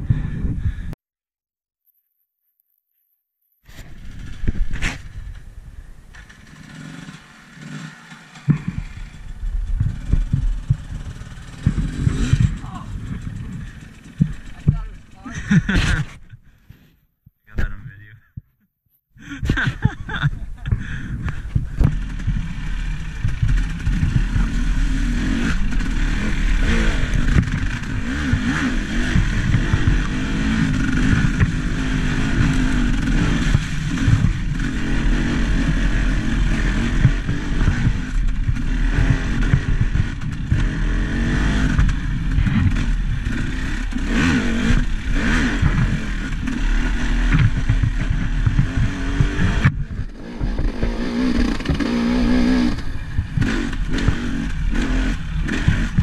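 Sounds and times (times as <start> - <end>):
vehicle engine running: 3.7 - 16.0, 19.5 - 56.0
knocks and rattles: 8.0 - 16.4, 19.5 - 56.0.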